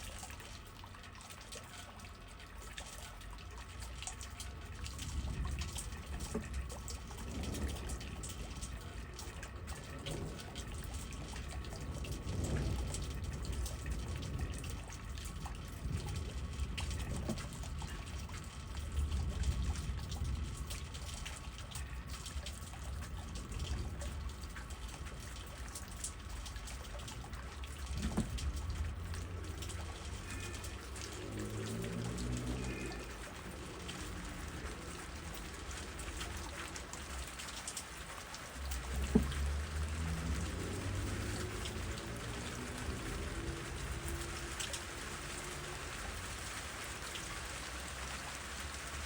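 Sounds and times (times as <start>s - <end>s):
rain dripping on trees: 0.0s - 49.0s
wind rumbling in gusts: 4.7s - 21.7s, 22.4s - 49.0s.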